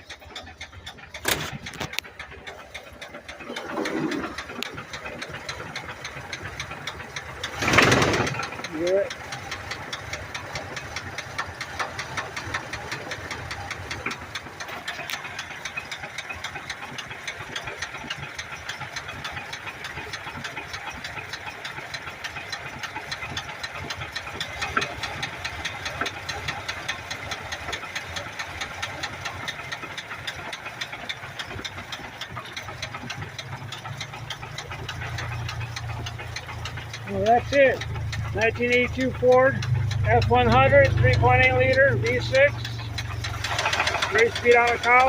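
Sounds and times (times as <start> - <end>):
engine idling with knocking: 0.0 - 45.0.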